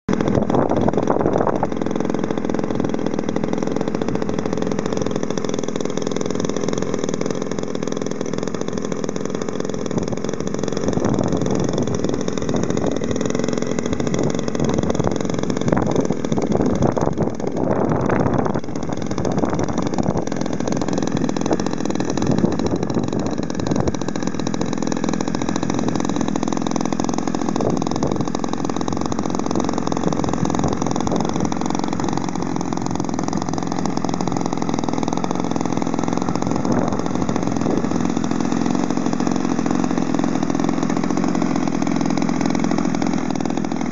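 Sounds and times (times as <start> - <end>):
model airplane engine running: 0.1 - 43.9.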